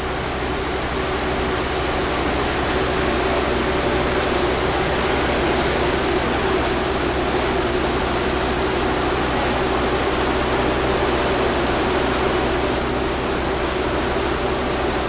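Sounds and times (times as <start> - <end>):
train rushing hum: 0.0 - 15.0.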